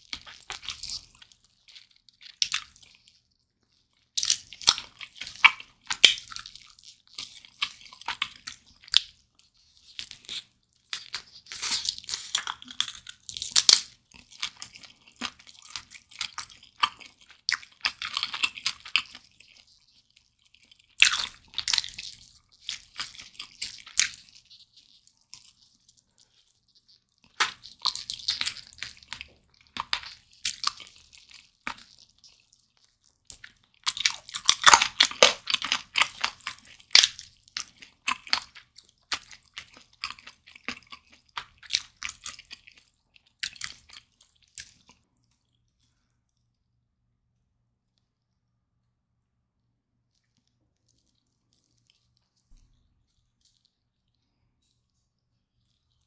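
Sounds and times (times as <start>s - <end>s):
biting and chewing: 0.0s - 46.5s.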